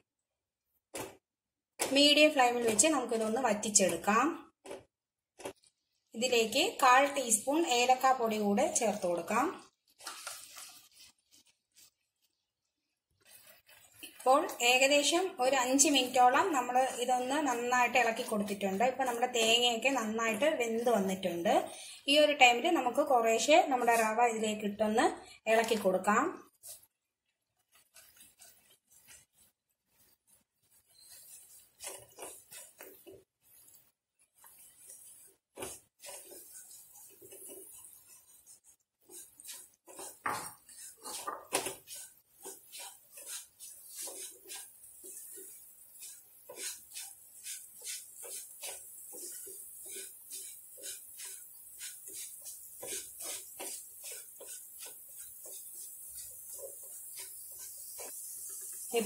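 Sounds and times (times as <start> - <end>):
spatula scraping in pan: 5.4 - 59.0.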